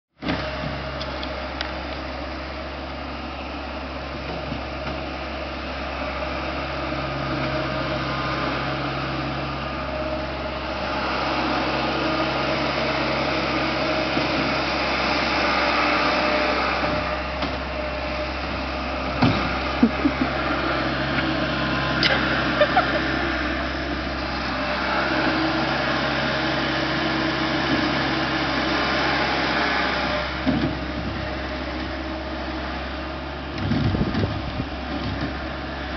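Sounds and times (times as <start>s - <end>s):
vehicle engine running: 0.2s - 35.9s.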